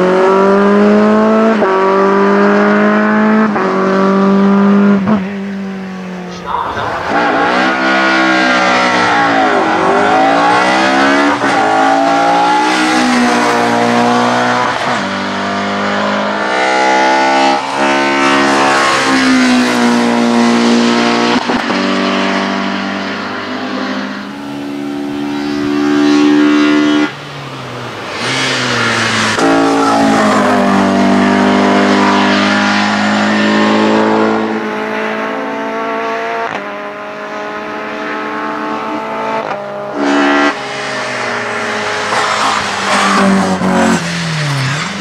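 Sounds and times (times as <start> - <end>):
race car engine revving hard: 0.0 - 5.4, 6.2 - 27.2, 27.9 - 45.0.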